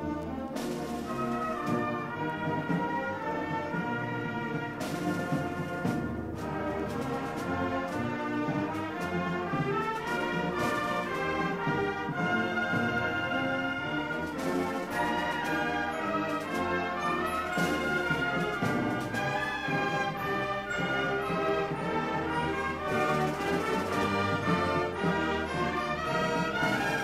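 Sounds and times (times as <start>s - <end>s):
wind band music from a record: 0.0s - 27.0s.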